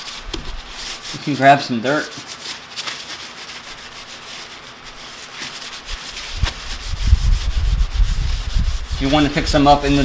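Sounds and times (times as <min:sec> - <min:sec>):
wipe scrubbing metal cover: 0:00.0 - 0:10.0.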